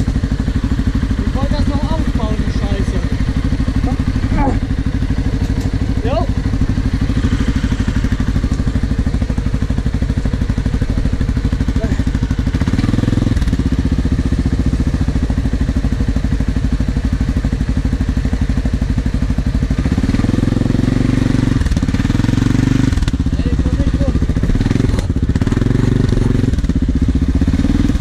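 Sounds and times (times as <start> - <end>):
quad engine idling: 0.0 - 28.0.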